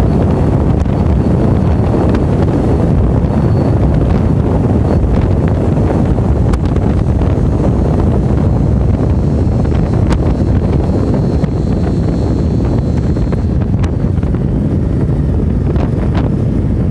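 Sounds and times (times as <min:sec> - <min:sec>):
road noise: 0:00.0 - 0:16.9
wind buffeting microphone: 0:00.0 - 0:16.9.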